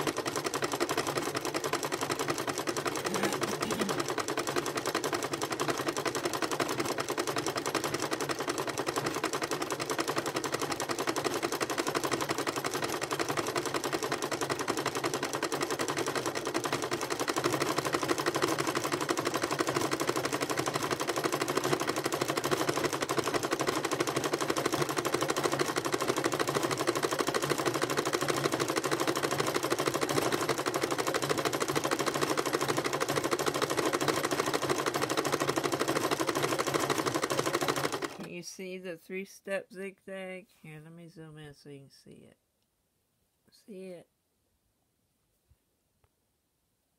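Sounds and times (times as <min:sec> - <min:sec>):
sewing machine running: 0:00.0 - 0:38.3.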